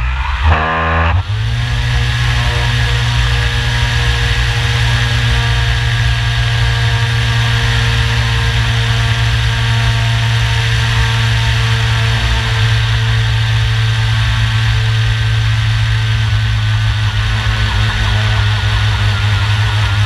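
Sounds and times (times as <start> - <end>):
electric motor hum: 0.4 - 20.0.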